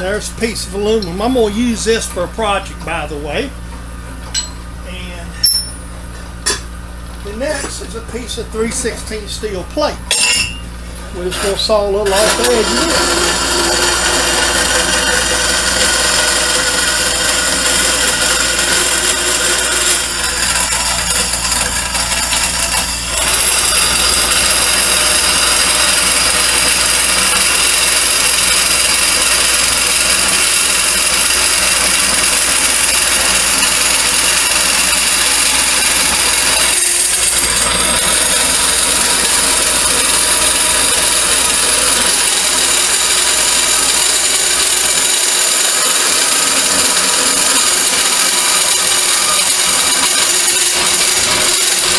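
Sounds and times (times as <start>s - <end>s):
band saw cutting steel: 0.0s - 3.6s, 7.3s - 51.9s.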